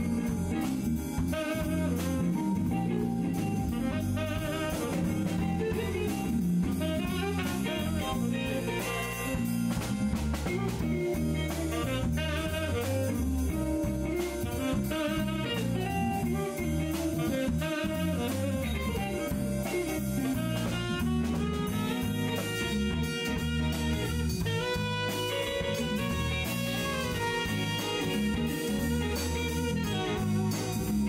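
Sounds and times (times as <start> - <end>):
drum kit: 0.0 - 31.0
electric bass: 0.0 - 31.0
electric guitar: 0.0 - 31.0
keyboard: 0.0 - 31.0
saxophone melody: 0.0 - 31.0.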